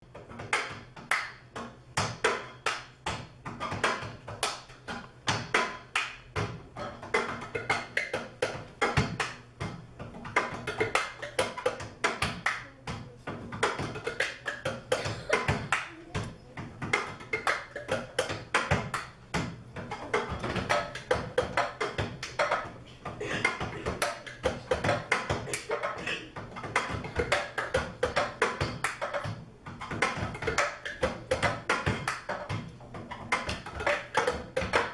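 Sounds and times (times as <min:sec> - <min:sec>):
cups tapped in rhythm: 0:00.1 - 0:34.9.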